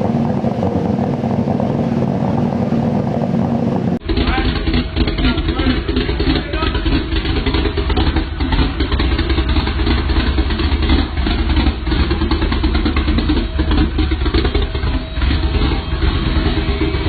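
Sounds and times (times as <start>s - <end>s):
loud vehicle engine and exhaust: 0.0s - 17.0s.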